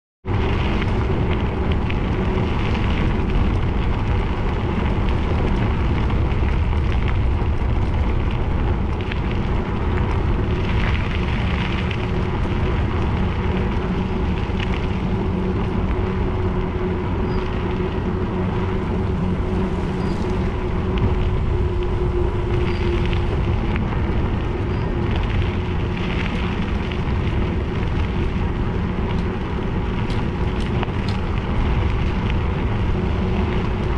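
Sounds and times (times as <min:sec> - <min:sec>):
wind on microphone: 0:00.2 - 0:33.9
tyres rolling over gravel: 0:00.3 - 0:33.9.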